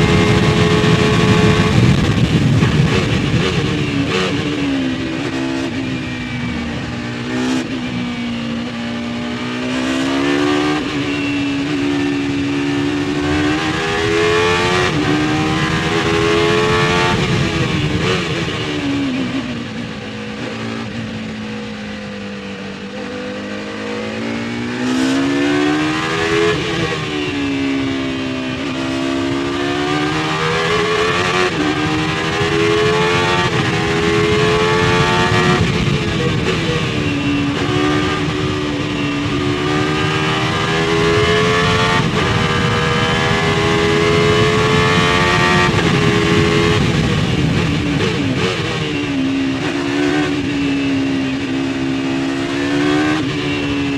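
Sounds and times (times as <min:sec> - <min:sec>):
race car engine revving: 0:00.0 - 0:21.8, 0:22.5 - 0:53.9.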